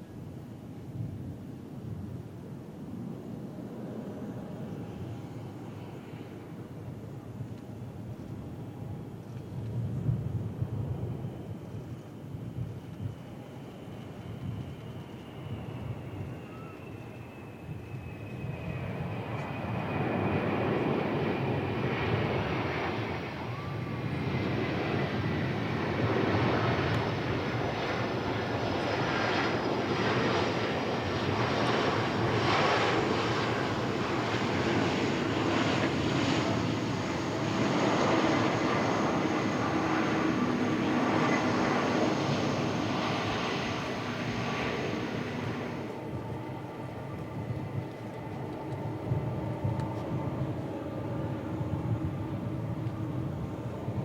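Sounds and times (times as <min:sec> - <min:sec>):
jet engine rumble: 0:00.0 - 0:54.0
jet engine whine: 0:00.0 - 0:54.0.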